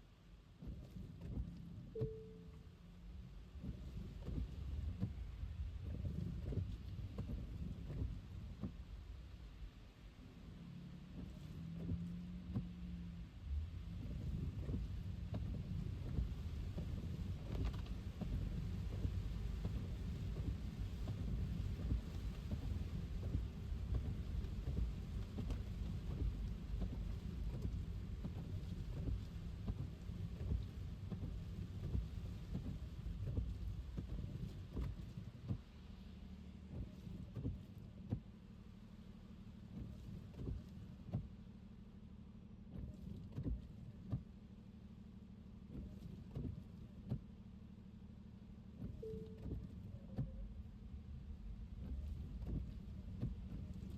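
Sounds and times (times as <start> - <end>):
tyres rumbling on wet road: 3.1 - 47.2, 50.5 - 53.9.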